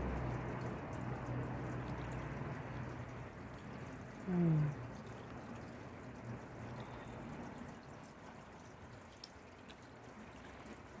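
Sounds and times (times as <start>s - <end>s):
water fountain trickling: 0.0s - 11.0s.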